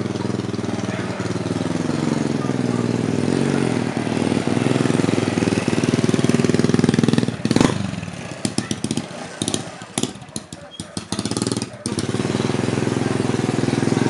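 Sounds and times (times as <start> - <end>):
motorbike engines running: 0.0 - 14.0.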